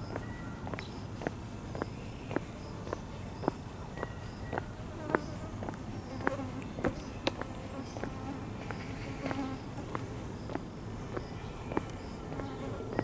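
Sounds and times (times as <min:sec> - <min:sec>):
footsteps on stone paving: 0:00.0 - 0:13.0
insects buzzing: 0:00.0 - 0:13.0.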